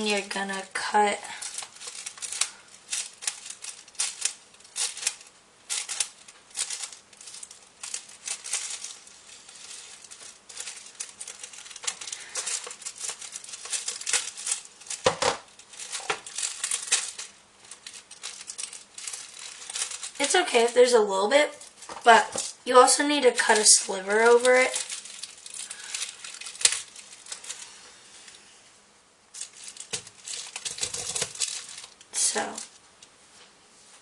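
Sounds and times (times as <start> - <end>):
plastic film being cut and crinkled: 0.0 - 27.9, 29.4 - 32.8.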